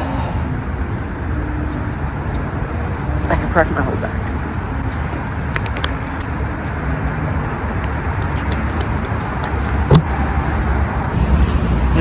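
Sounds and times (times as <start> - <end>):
passing cars traffic: 0.0 - 12.0.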